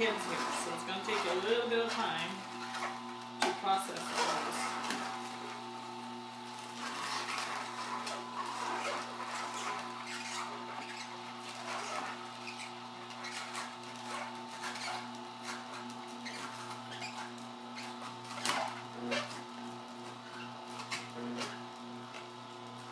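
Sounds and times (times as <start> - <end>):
juicer motor hum: 0.0 - 22.9
vegetables crunching in juicer: 0.0 - 22.9.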